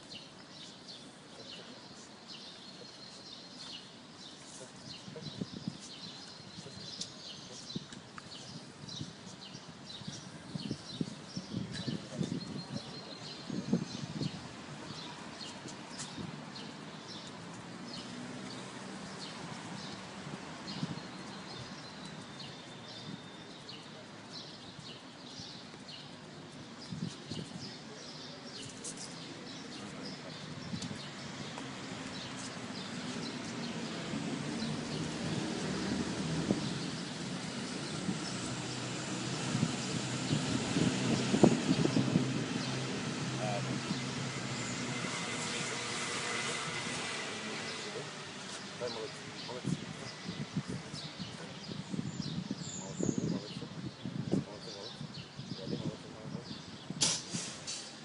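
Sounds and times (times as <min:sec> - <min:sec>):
faint outdoor background noise: 0:00.0 - 0:58.0
small birds chirping: 0:00.0 - 0:58.0.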